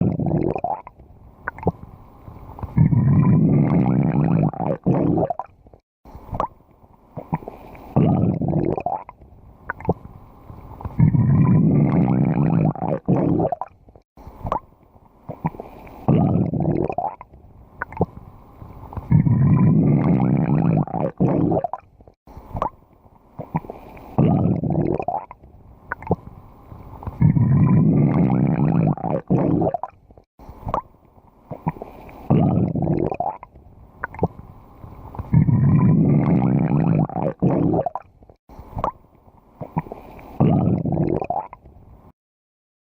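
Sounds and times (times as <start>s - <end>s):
stomach growling and gurgling: 0.0s - 39.0s, 39.6s - 42.2s.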